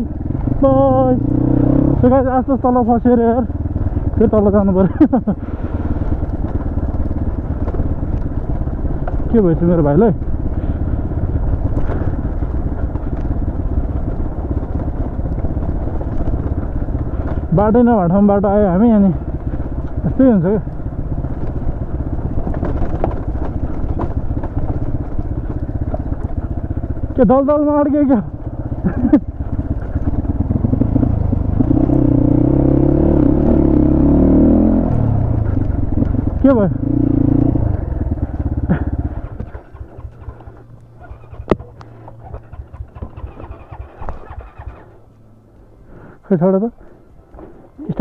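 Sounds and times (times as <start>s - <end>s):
motorcycle engine rumbling: 0.0s - 48.0s.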